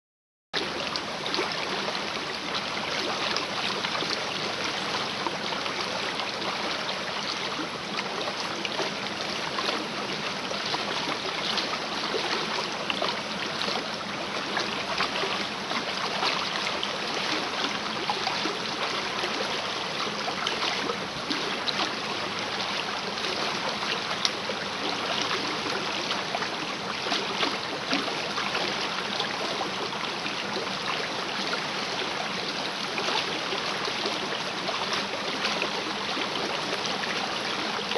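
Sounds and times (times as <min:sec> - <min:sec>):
river water rushing and splashing: 0:00.6 - 0:37.9.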